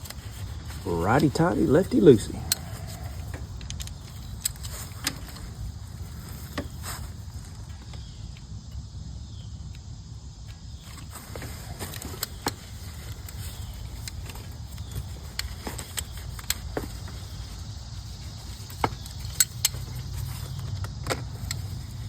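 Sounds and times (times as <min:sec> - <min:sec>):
hand tools clicking and tapping: 0:00.0 - 0:08.1, 0:10.9 - 0:22.0.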